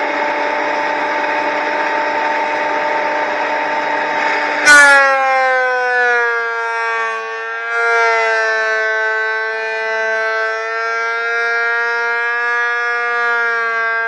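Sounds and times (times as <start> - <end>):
planer motor whining: 0.0 - 14.0.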